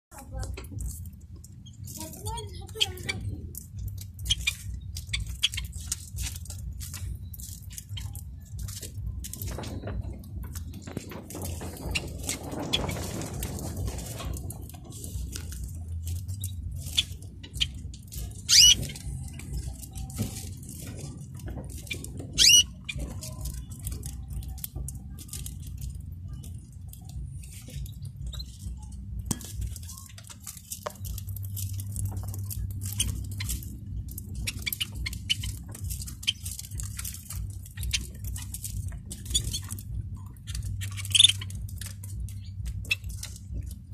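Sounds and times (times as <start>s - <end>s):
birds pecking seed in plastic dish: 0.1s - 43.9s.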